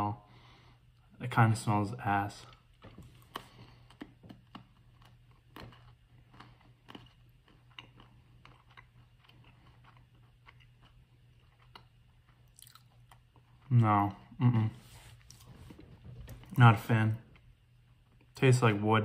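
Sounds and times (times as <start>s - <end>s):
person chewing crunchily: 2.4s - 18.3s.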